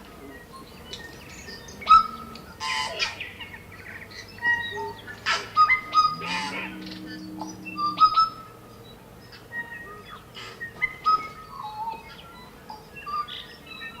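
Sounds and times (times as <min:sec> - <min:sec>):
birds chirping and whistling: 0:00.0 - 0:14.0.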